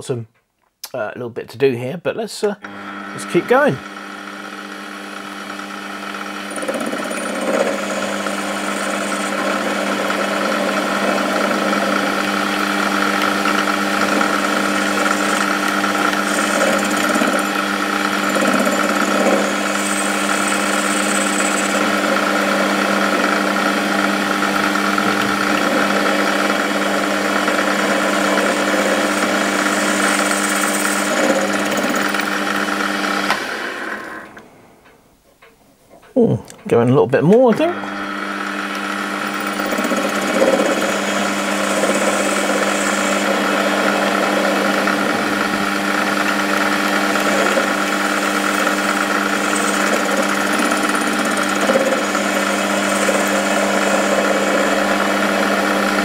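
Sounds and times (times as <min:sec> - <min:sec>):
metal lathe hum and whine: 0:02.6 - 0:34.6, 0:37.5 - 0:56.0.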